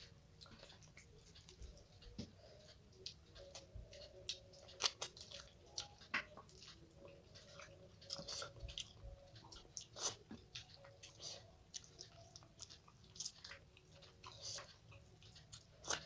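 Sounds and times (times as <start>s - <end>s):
person chewing and lip-smacking: 0.4s - 16.0s.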